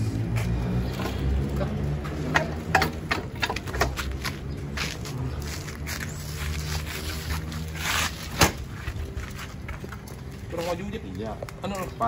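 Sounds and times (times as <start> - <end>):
engine running: 0.0 - 10.8.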